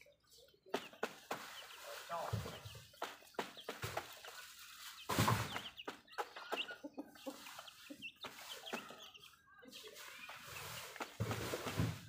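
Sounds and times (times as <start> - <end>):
chickens clucking softly: 0.0 - 11.7
chicks peeping: 0.0 - 12.0.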